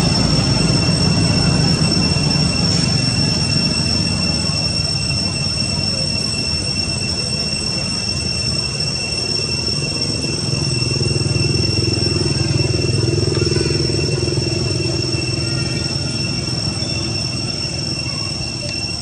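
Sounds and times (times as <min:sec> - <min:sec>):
steady high-pitched whine: 0:00.0 - 0:19.0.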